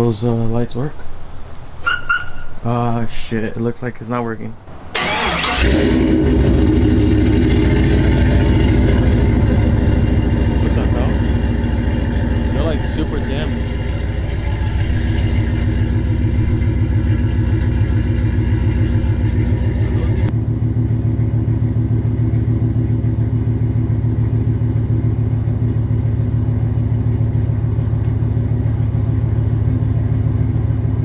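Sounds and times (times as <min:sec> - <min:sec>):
pickup truck engine idling: 0:04.7 - 0:31.0.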